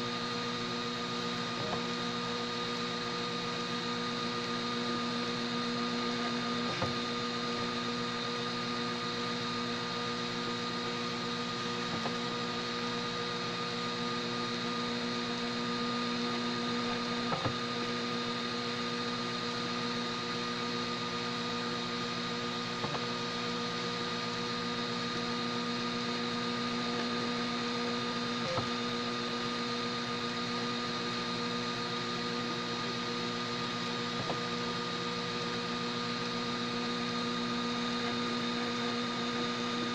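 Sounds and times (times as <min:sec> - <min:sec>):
printer motor humming: 0:00.0 - 0:39.9.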